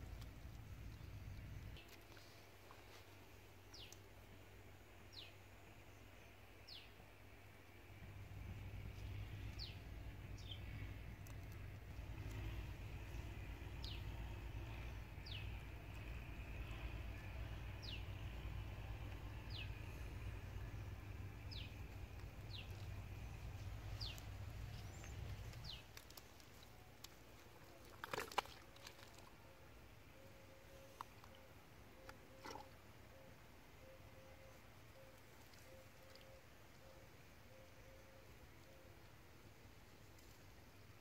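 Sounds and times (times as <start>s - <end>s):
faint low rumble: 0.0s - 41.0s.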